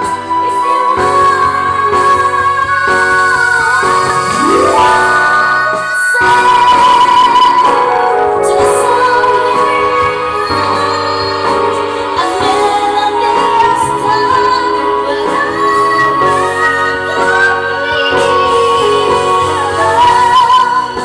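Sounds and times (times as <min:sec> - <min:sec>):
woman singing into microphone: 0:00.0 - 0:21.0.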